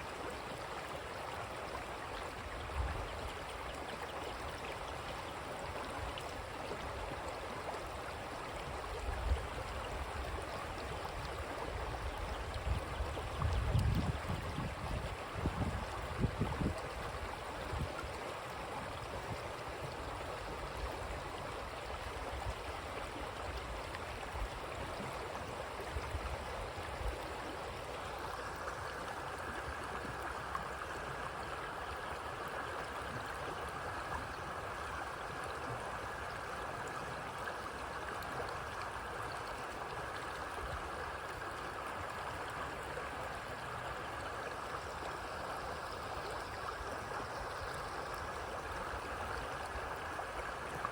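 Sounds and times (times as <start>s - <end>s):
creek water gurgling: 0.0s - 50.9s.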